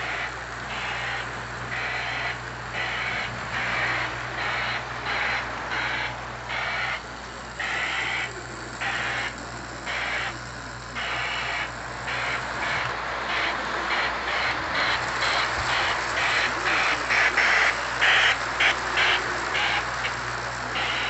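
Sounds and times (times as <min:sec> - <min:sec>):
simulated steam chuffing: 0:00.0 - 0:21.0
steady low hum: 0:00.0 - 0:21.0.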